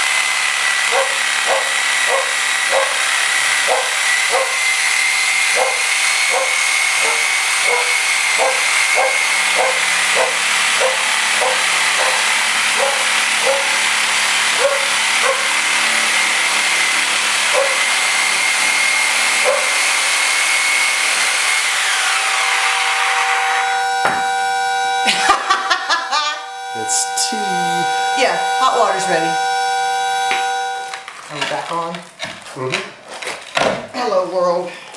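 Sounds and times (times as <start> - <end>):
reciprocating saw cutting: 0.0 - 31.1.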